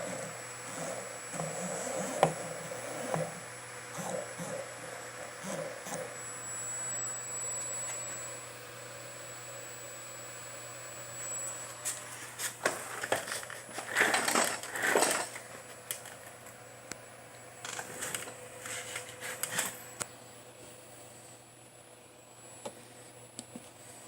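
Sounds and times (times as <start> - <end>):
electrical hum: 0.0 - 24.0
faint high whine: 0.0 - 24.0.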